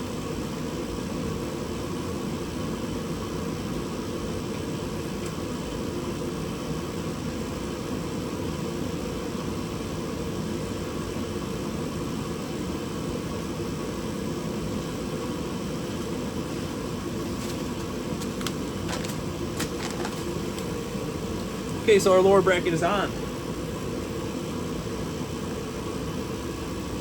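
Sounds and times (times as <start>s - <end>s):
fan-like running noise: 0.0s - 27.0s.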